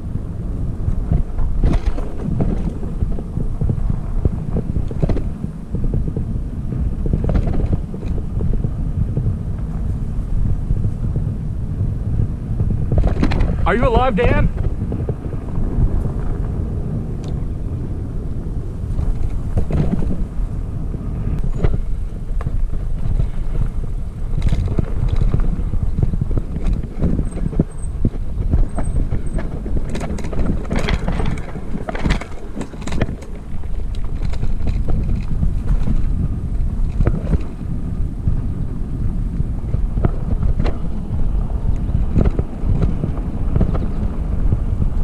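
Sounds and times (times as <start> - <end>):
bike knocks and rattles: 0.0 - 45.0
wind rumble on microphone: 0.0 - 45.0.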